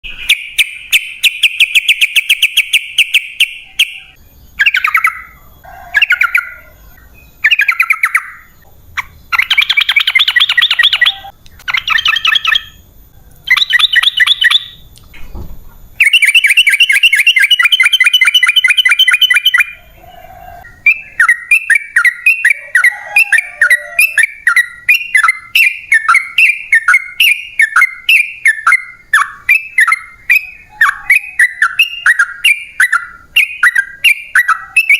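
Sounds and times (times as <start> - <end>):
bulbul singing chattering trills: 0.0 - 34.9.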